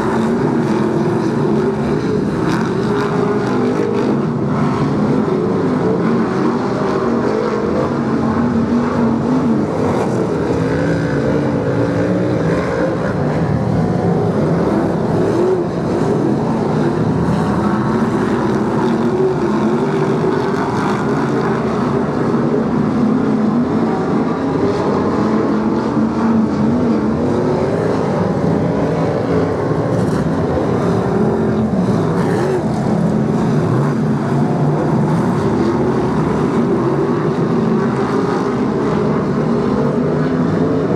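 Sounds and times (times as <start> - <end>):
racing car engines droning: 0.0 - 40.9.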